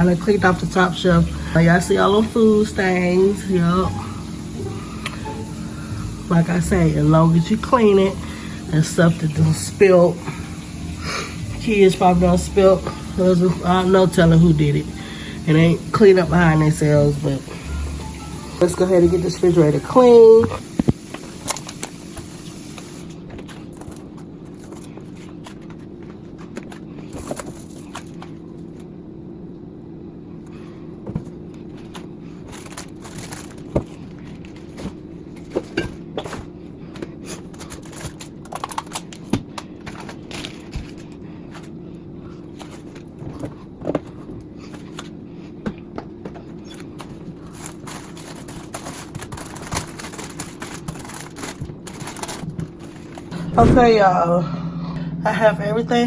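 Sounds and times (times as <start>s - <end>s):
steady low hum: 0.0s - 21.8s, 23.0s - 56.0s.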